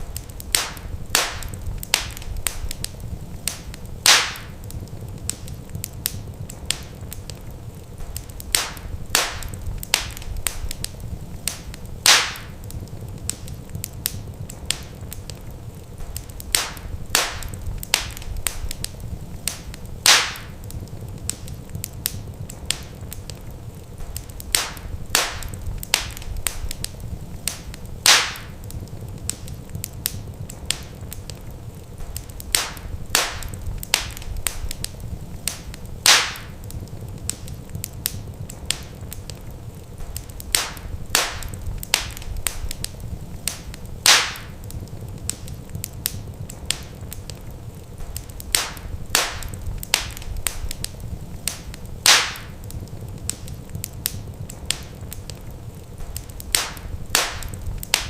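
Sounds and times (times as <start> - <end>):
loud pops of fire: 0.0 - 58.0
wood fire crackling: 0.0 - 58.0.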